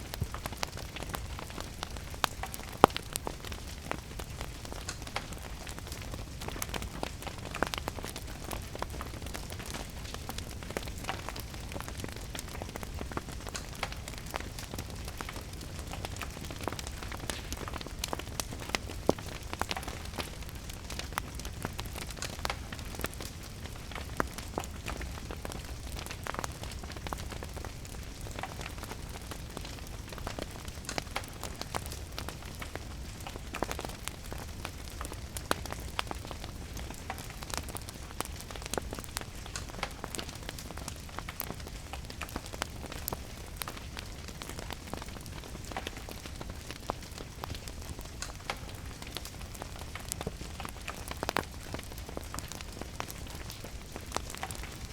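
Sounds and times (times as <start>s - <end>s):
steady rain: 0.0s - 54.9s
wood fire crackling: 0.0s - 54.9s.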